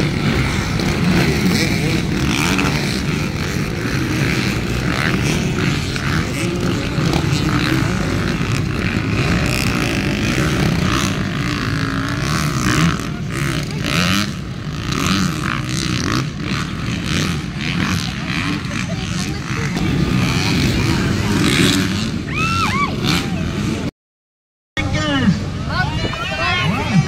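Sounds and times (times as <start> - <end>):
dirt bike engines revving: 0.0 - 23.9, 24.8 - 27.0.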